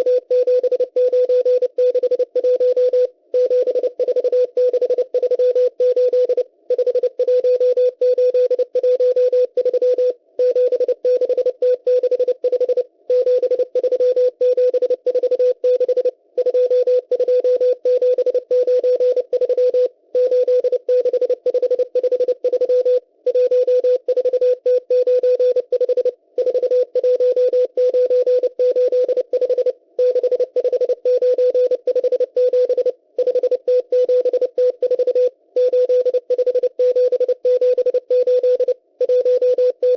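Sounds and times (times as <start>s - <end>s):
morse code tone: 0.0s - 39.9s.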